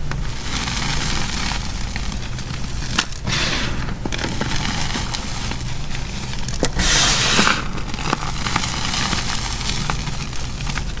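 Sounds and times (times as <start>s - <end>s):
hands crushing chalk: 0.0s - 11.0s.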